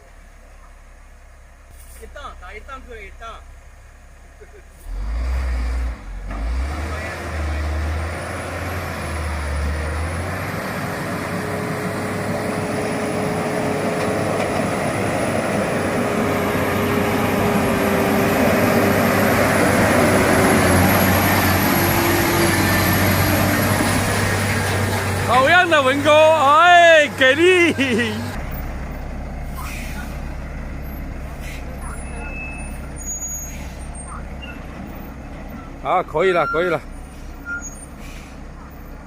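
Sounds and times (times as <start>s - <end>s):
heavy truck engine pulling hard: 1.7s - 39.0s.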